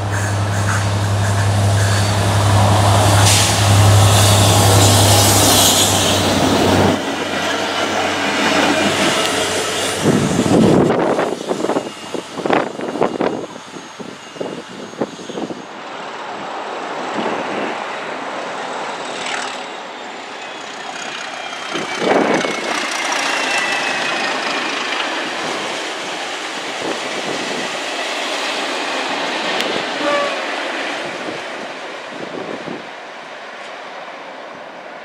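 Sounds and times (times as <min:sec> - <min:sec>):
train rushing past: 0:00.0 - 0:35.0.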